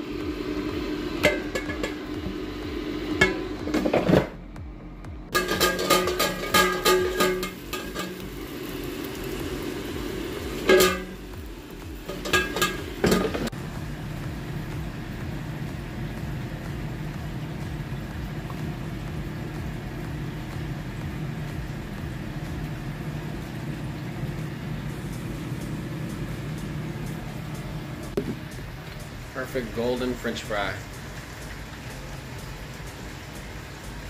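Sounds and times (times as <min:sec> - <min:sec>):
air fryer fan humming: 0:00.0 - 0:34.0.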